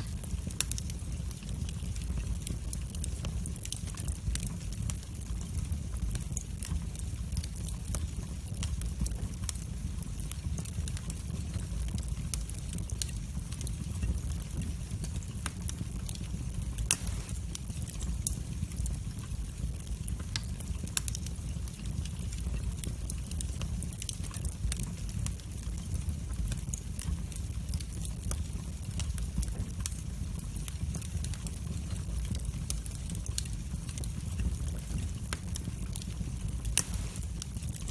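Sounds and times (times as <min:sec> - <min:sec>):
fire crackling and popping: 0:00.0 - 0:37.9
fire flames rumbling: 0:00.0 - 0:37.9.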